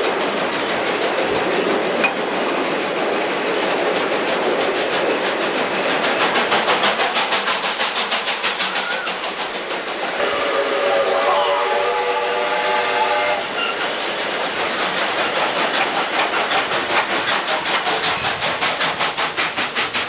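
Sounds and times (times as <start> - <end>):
rapid rhythmic steam beat: 0.0 - 20.0
train rumbling and clattering on rails: 0.0 - 20.0.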